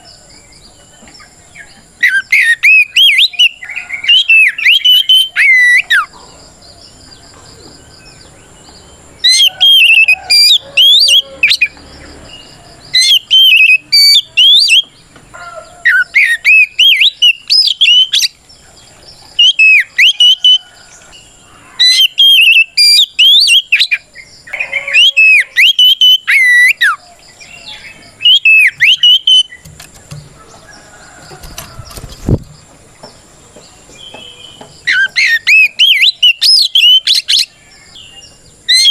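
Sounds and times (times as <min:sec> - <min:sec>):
songbird whistling song: 0:00.0 - 0:38.9.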